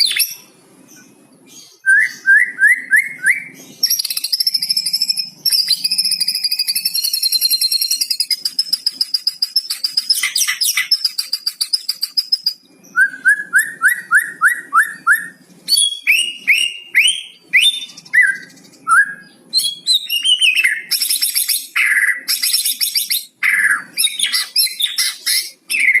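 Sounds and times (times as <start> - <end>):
songbird singing varied song: 0.0 - 26.0.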